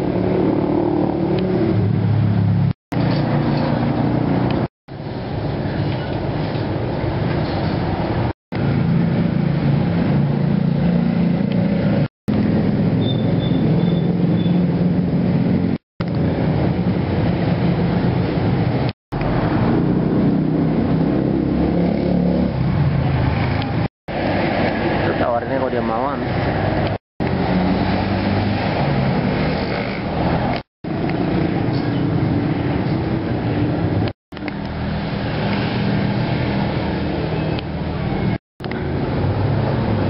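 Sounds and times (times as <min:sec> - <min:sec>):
vehicles passing close by: 0:00.0 - 0:40.0.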